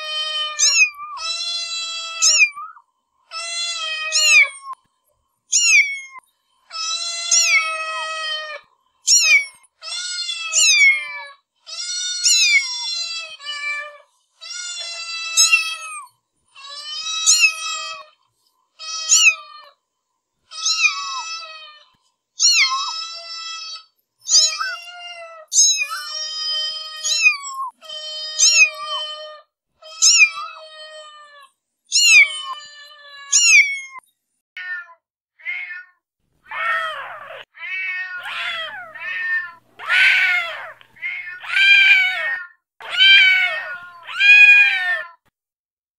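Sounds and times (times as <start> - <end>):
cat meowing: 0.0 - 4.8, 5.5 - 18.2, 18.8 - 19.8, 20.5 - 34.0, 34.6 - 45.3.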